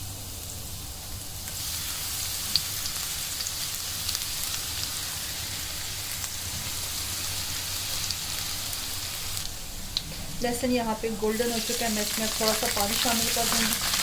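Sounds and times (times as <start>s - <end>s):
garlic sizzling in oil: 0.0s - 14.0s.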